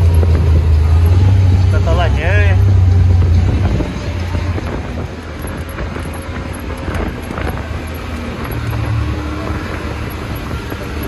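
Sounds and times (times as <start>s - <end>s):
engine and drivetrain drone: 0.0s - 11.0s
light rattles and clicks: 0.0s - 11.0s
wind buffeting microphone: 0.0s - 11.0s.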